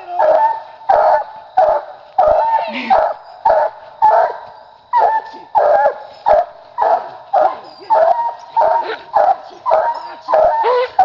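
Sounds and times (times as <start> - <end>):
puppy barking: 0.2 - 11.0.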